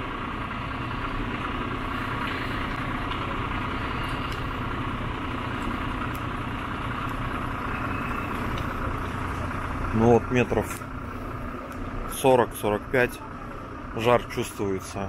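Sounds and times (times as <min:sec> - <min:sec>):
fire engines idling: 0:00.0 - 0:15.0.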